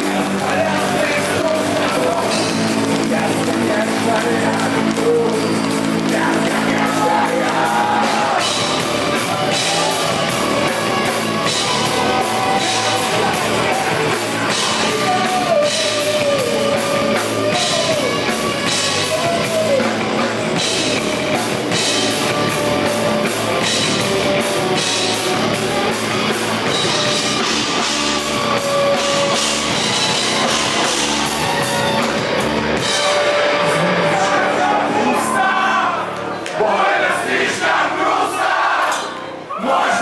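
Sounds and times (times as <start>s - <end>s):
drum kit with cymbals: 0.0s - 34.6s
distorted electric guitars: 0.0s - 36.2s.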